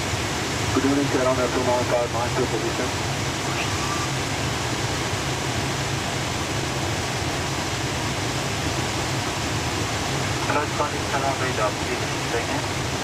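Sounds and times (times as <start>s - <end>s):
air-conditioning hiss: 0.0s - 13.0s.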